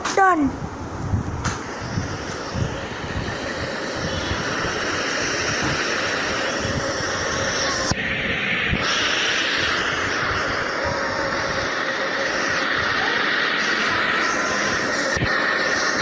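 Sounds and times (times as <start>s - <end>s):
rushing rumbling drone: 0.0s - 16.0s.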